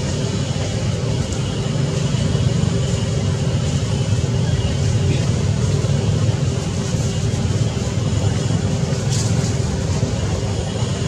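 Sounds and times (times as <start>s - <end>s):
loud low-pitched background noise: 0.0s - 11.0s.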